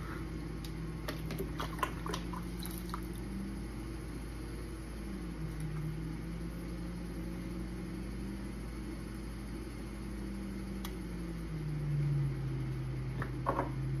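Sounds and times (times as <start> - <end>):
potter's wheel motor humming: 0.0 - 14.0.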